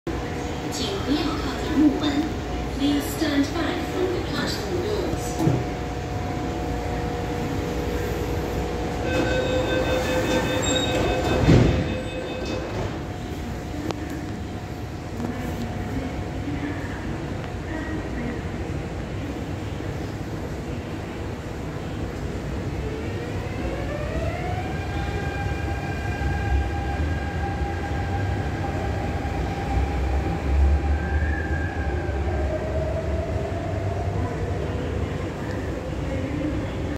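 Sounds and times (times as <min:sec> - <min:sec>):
train rumble: 0:00.1 - 0:36.9.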